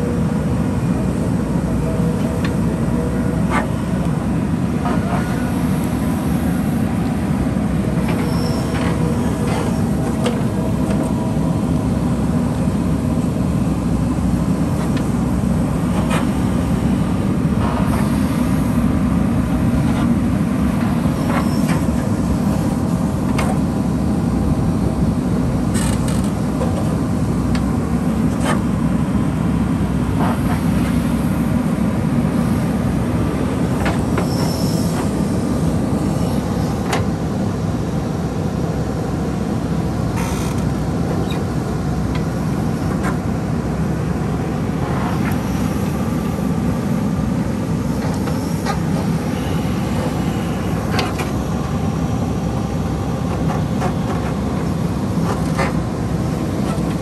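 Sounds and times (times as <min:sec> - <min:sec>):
diesel engine under load: 0:00.0 - 0:57.0
hydraulic whine: 0:00.6 - 0:23.6, 0:25.6 - 0:27.6, 0:32.3 - 0:57.0.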